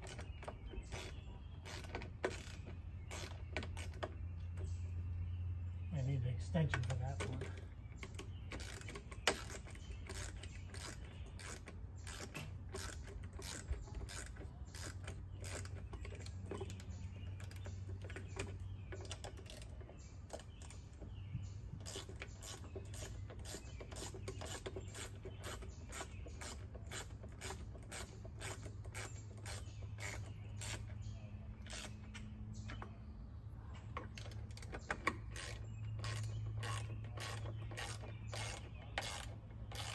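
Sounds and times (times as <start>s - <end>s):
screwdriver clicking and creaking: 0.0s - 4.2s, 6.7s - 20.7s, 21.8s - 32.9s, 33.8s - 39.9s.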